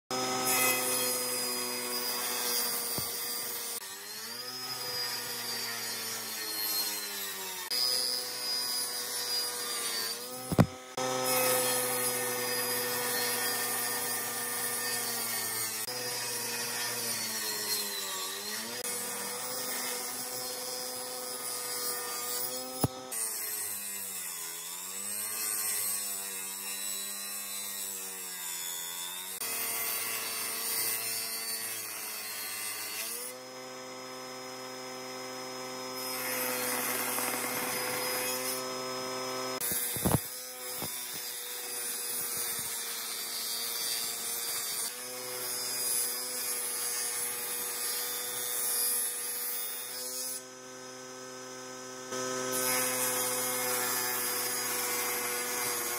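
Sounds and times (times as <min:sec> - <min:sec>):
woodworking machines cutting boards: 0:00.1 - 0:55.9.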